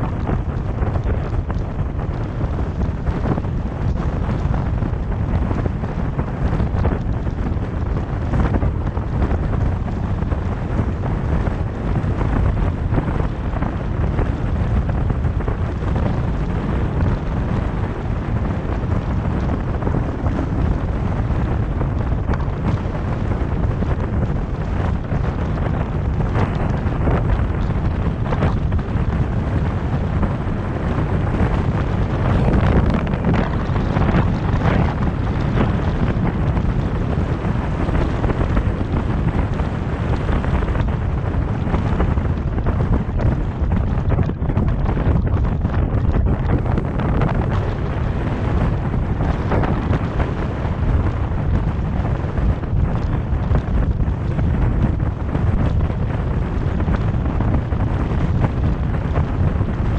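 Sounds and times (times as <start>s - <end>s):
low road noise rumble: 0.0s - 59.9s
wind rushing over microphone: 0.0s - 59.9s.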